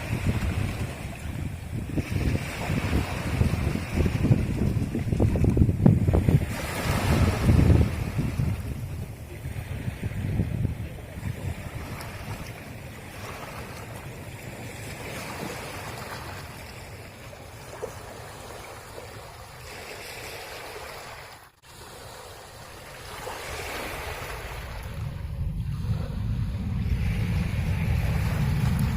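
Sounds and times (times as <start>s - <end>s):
wind buffeting microphone: 0.0s - 19.8s, 22.4s - 28.9s
sea waves washing on shore: 0.0s - 28.9s.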